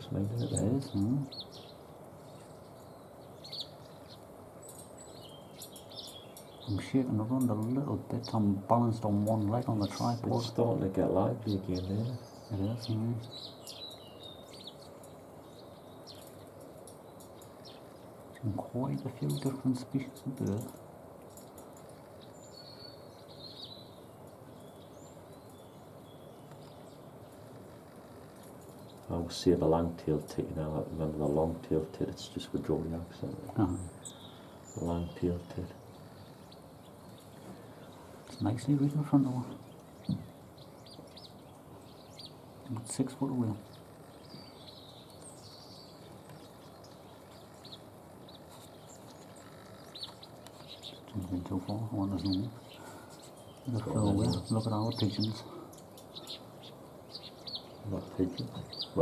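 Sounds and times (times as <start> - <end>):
outdoor background hiss: 0.0 - 59.0
songbirds chirping and whistling: 0.0 - 59.0.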